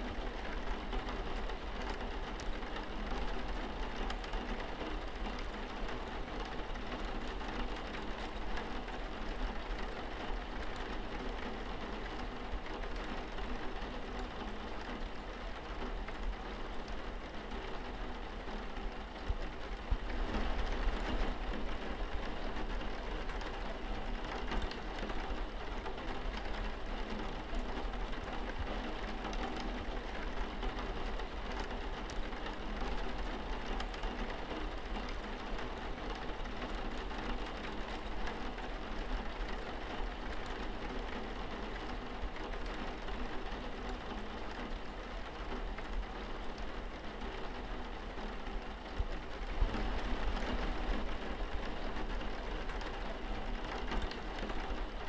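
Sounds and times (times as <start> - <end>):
raindrops pattering on window glass: 0.0 - 55.0
steady rain falling: 0.0 - 55.0.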